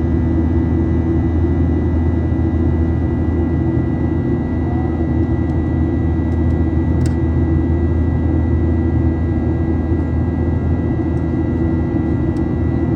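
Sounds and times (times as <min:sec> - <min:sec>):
airplane engine drone: 0:00.0 - 0:12.9.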